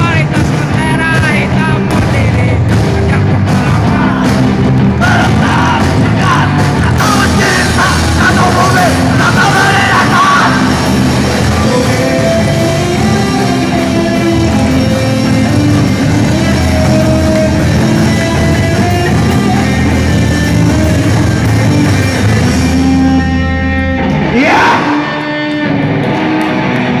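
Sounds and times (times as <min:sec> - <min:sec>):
loud rock music with guitar: 0:00.0 - 0:27.0.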